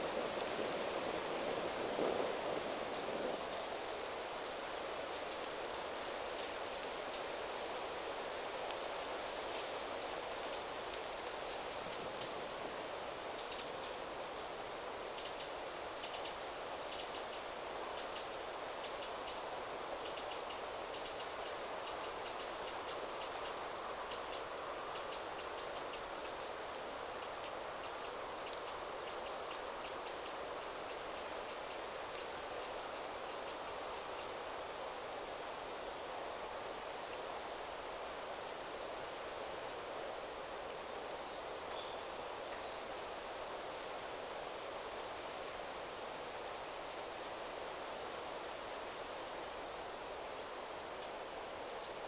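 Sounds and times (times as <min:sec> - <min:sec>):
wind through trees: 0:00.0 - 0:52.0.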